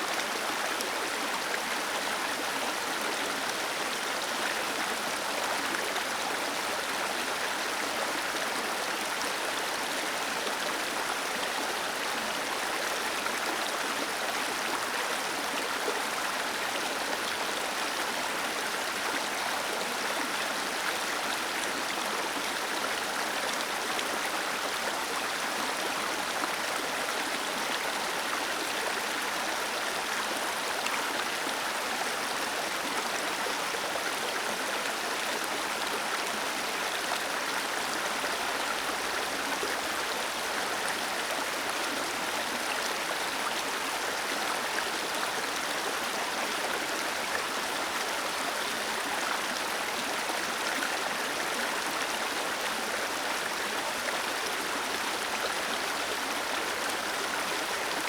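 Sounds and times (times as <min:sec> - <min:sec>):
small waterfall cascading: 0:00.0 - 0:58.0.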